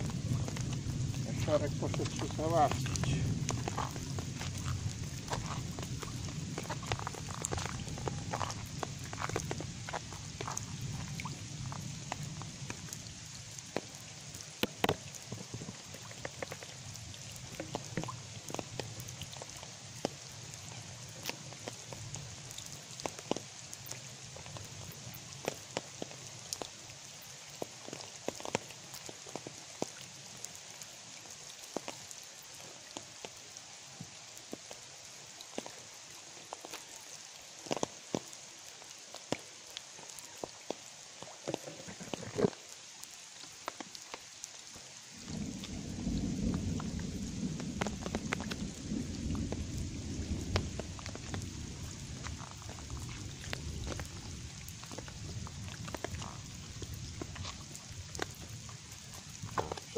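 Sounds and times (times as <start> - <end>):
raindrops dripping into puddle: 0.0 - 59.9
steady hiss of rain: 0.0 - 59.9.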